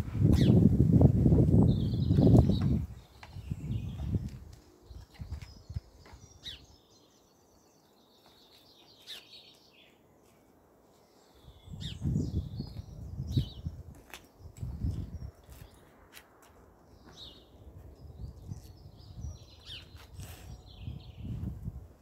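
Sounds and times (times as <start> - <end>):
small birds chirping: 0.2 - 0.7, 1.5 - 16.1, 16.8 - 21.6.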